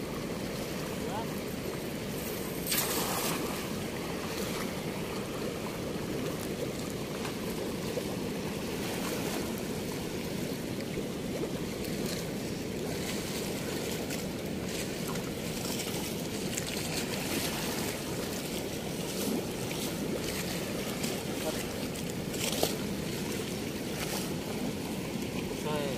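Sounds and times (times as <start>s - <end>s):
water rushing through weir: 0.0s - 25.9s.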